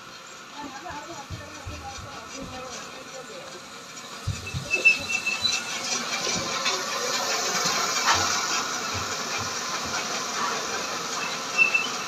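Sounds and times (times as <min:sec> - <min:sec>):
conveyor rattling hiss: 0:00.0 - 0:12.0.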